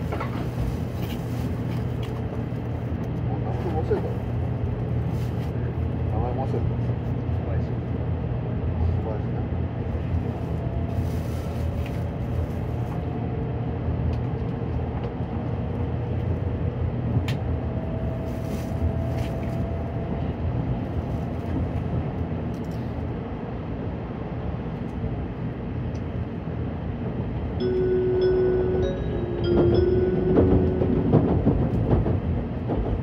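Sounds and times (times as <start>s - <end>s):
train cabin rumble: 0.0s - 33.0s.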